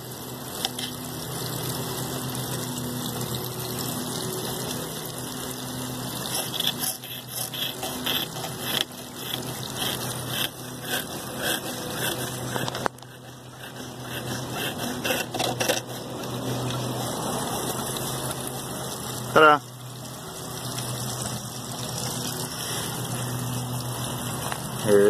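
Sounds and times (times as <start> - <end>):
water splashing onto water wheel: 0.0 - 25.0.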